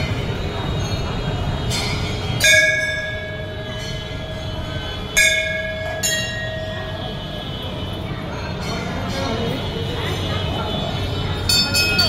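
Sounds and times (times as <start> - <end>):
crowd murmur: 0.0 - 12.0
temple bell ringing: 0.0 - 12.0.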